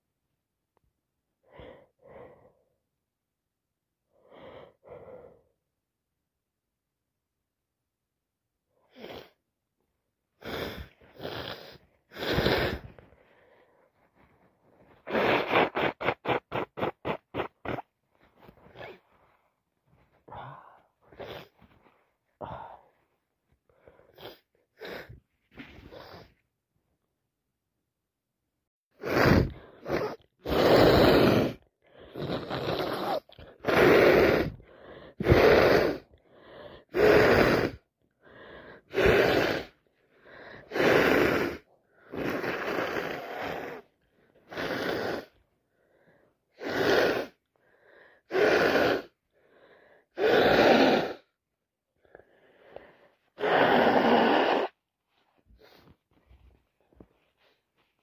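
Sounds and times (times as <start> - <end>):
person breathing heavily: 1.4 - 2.8, 4.1 - 5.6, 10.4 - 26.4, 29.0 - 51.4, 52.0 - 58.0.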